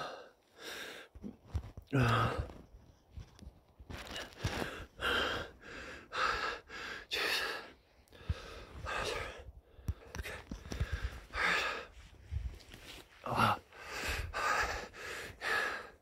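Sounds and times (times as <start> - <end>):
man panting heavily: 0.0 - 1.2, 4.3 - 16.0.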